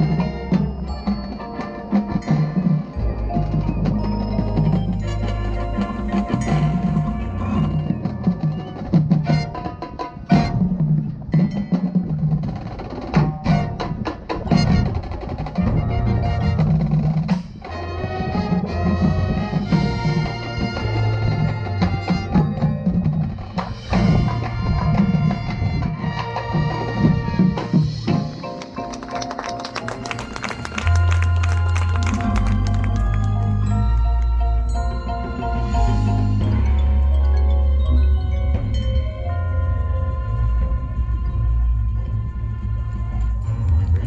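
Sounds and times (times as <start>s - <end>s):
mallet percussion: 0.0s - 14.8s, 18.6s - 44.0s
marching band playing: 0.0s - 44.0s.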